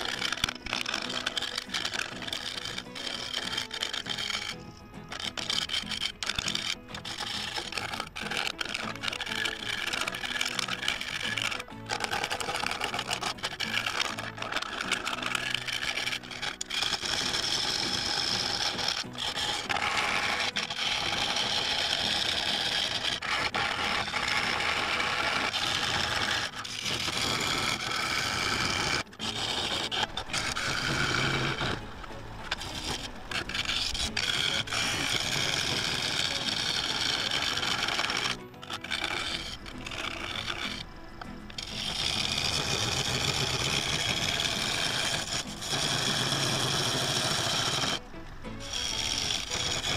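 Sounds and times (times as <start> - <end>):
background music: 0.0 - 49.9
lathe tool cutting wood: 0.0 - 49.9.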